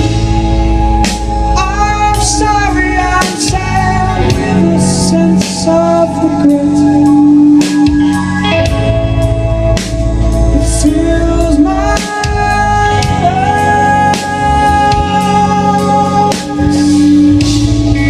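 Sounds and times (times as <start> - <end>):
live rock band playing: 0.0 - 18.0
person singing: 1.3 - 9.3, 10.2 - 18.0.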